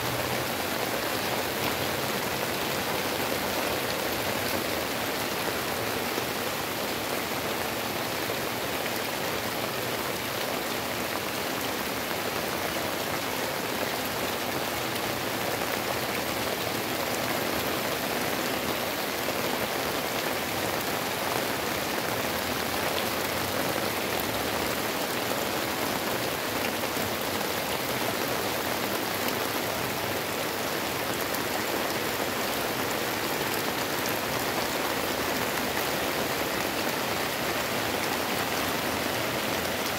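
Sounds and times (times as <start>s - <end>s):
heavy rain on leaves and roofs: 0.0s - 39.9s.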